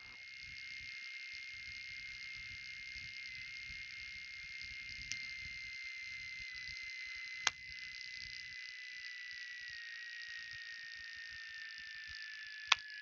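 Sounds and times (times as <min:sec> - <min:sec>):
thin steady whine: 0:00.0 - 0:13.0.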